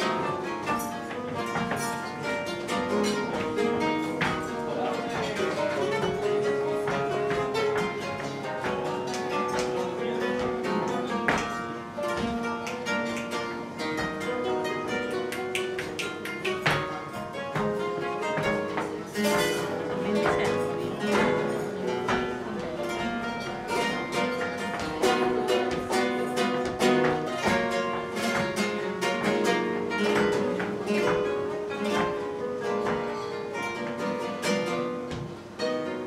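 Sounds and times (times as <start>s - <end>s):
sharp percussive strikes: 0.0s - 35.8s
acoustic flamenco guitars: 0.0s - 36.0s.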